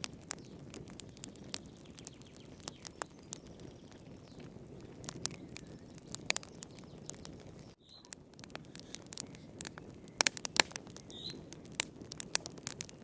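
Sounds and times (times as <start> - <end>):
low rush of flame: 0.0 - 13.0
wood fire crackling and popping: 0.0 - 13.0.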